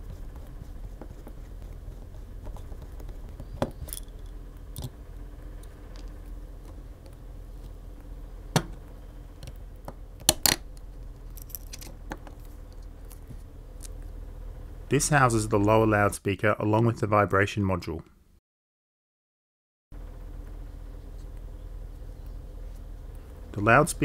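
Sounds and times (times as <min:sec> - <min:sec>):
faint low hum: 0:00.0 - 0:18.4, 0:20.0 - 0:24.0.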